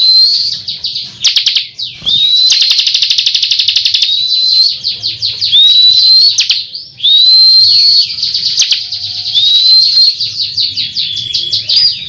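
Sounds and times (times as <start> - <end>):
bird singing fast chattering trills: 0.0 - 12.0.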